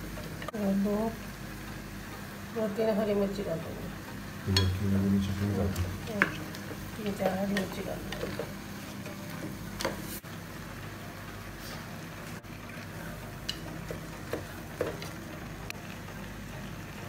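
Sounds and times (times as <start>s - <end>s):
pressure cooker hissing: 0.0s - 17.0s.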